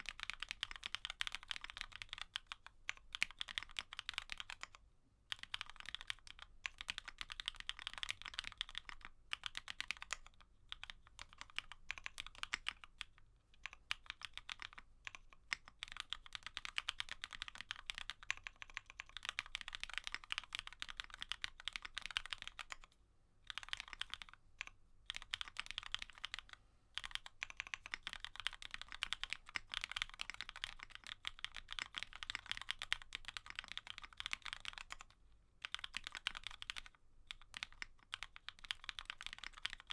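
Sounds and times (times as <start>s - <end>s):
mechanical keyboard typing: 0.0s - 22.9s, 23.5s - 39.9s.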